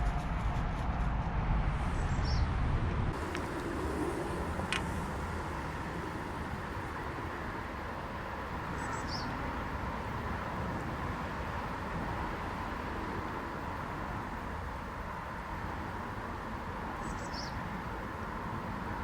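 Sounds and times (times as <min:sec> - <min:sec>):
low outdoor rumble: 0:00.0 - 0:17.1.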